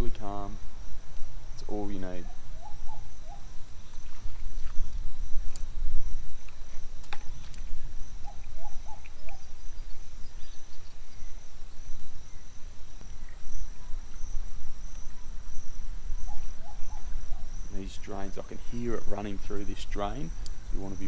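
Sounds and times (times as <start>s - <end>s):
insects trilling at high pitch: 0.0s - 21.0s.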